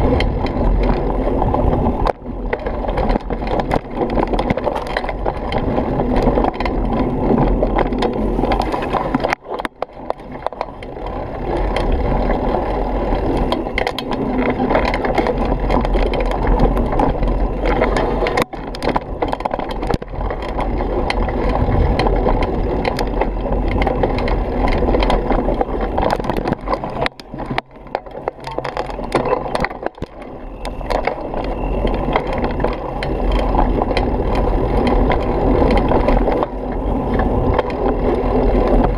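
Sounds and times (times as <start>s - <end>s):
bike and camera rattling: 0.0s - 38.9s
bike tyres rumbling on dirt: 0.0s - 38.9s.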